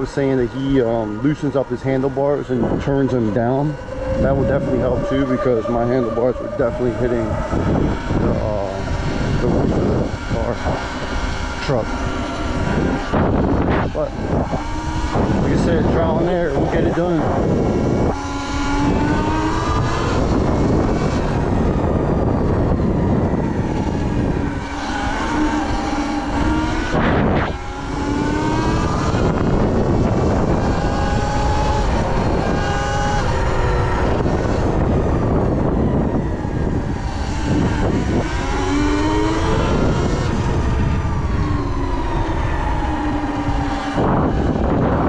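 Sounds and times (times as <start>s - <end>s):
electric motor whining: 0.0s - 45.0s
wind and tyre noise: 0.0s - 45.0s.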